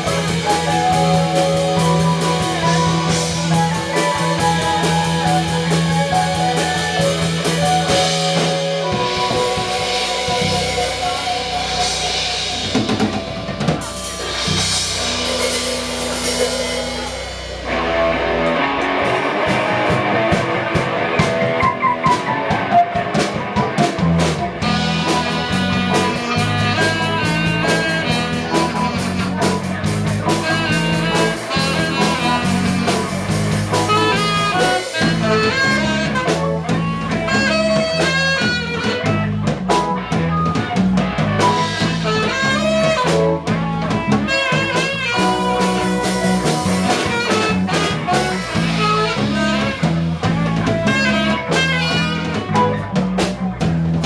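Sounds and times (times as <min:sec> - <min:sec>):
live band playing blues-jazz: 0:00.0 - 0:54.0.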